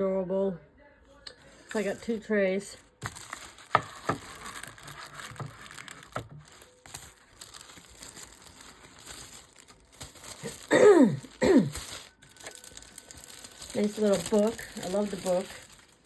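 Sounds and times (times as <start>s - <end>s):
packaging paper crinkling: 1.4s - 16.0s.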